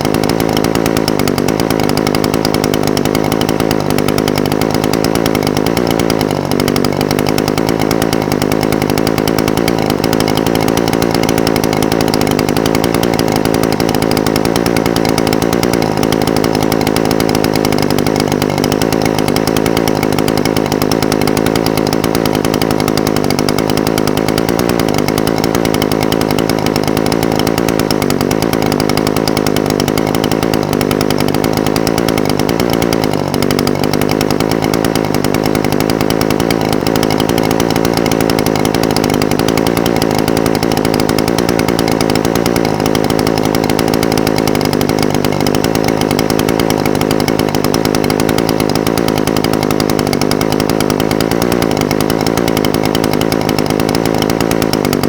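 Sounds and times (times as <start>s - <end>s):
brush cutter engine idling: 0.0s - 55.0s.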